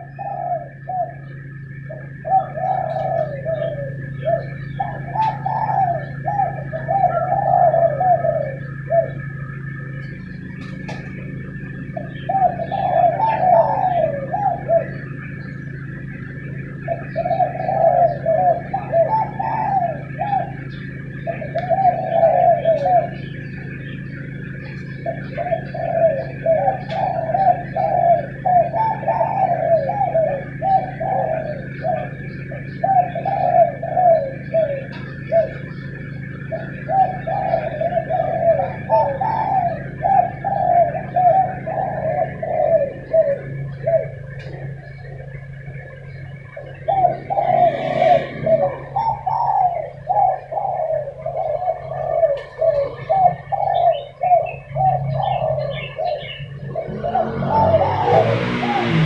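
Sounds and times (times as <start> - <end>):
doves cooing: 0.0 - 59.0
steady low hum: 0.0 - 59.0.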